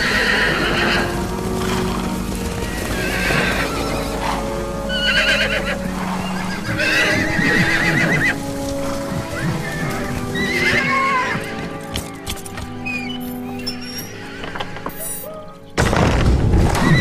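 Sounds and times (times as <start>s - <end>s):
hoof clatter: 0.0s - 15.7s
horses whinnying: 0.0s - 15.7s
background music sustained notes: 0.0s - 17.0s.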